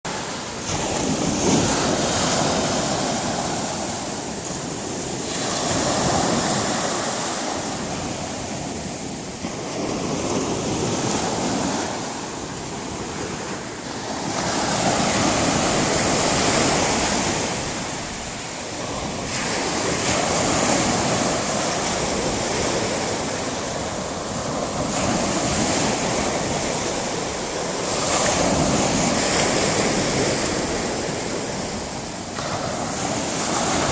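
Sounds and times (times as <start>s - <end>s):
sea surf breaking on shore: 0.1s - 33.9s
strong wind: 0.1s - 33.9s.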